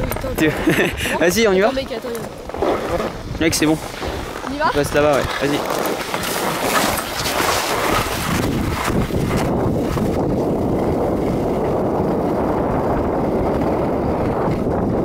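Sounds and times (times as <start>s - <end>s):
wind rumbling on microphone: 0.0s - 15.0s
skis scraping on snow: 0.4s - 14.9s.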